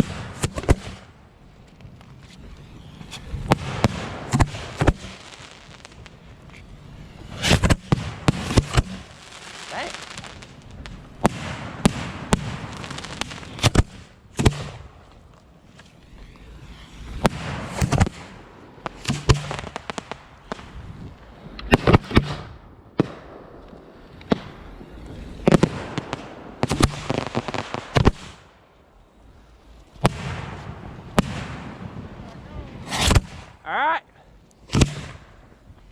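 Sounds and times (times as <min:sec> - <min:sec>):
fireworks bangs: 0:00.0 - 0:28.6, 0:29.6 - 0:34.0, 0:34.6 - 0:35.9.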